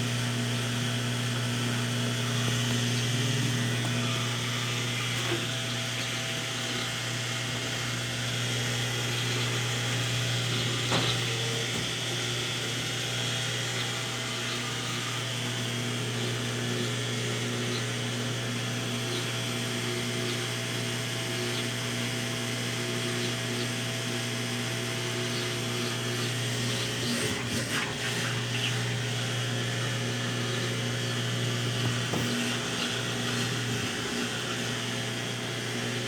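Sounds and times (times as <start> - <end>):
washing machine motor hum: 0.0 - 36.0.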